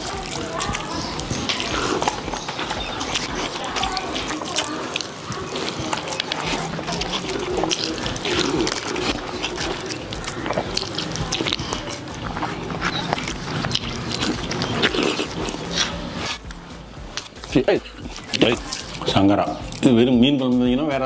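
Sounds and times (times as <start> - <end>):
rice squelching mixed by hand: 0.0 - 20.4
wet chewing and smacking: 0.0 - 21.0.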